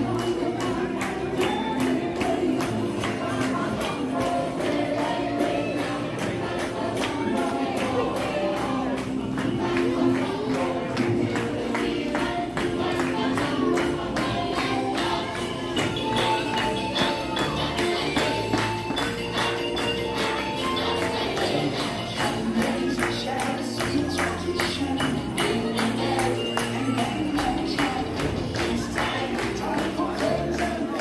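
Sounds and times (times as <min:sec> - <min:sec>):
percussion beat: 0:00.0 - 0:31.0
upbeat music with singing: 0:00.0 - 0:31.0.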